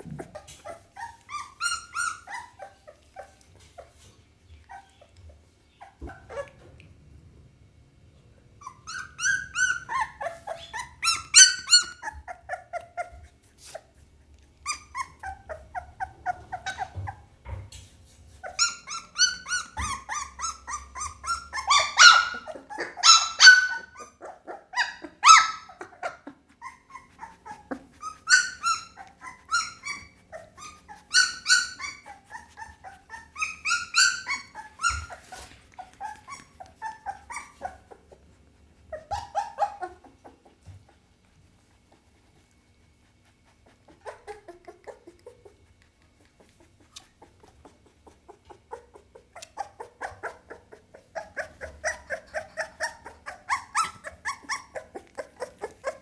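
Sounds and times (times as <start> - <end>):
puppy whining and yelping: 0.0 - 6.8, 8.6 - 17.4, 18.3 - 56.0.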